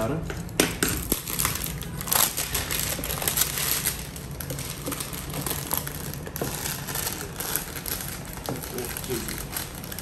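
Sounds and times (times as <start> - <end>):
plastic shrink wrap crinkling: 0.9 - 10.0.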